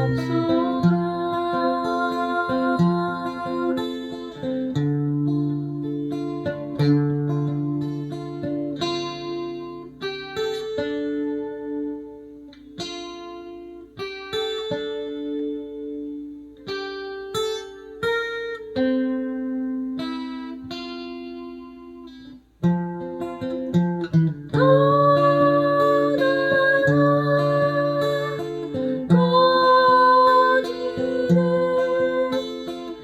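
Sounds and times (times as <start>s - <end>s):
acoustic guitar plucking: 0.0s - 33.0s.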